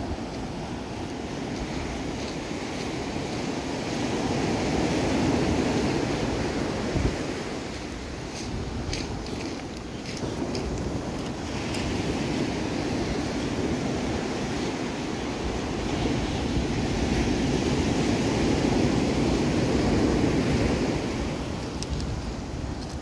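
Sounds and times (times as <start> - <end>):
ocean surf breaking on beach: 0.0 - 23.0
wind buffeting microphone: 0.0 - 23.0.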